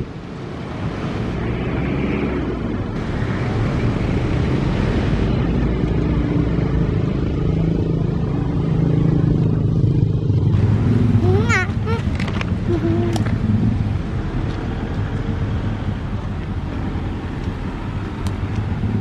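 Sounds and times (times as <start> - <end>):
low engine rumble: 2.5 - 19.0.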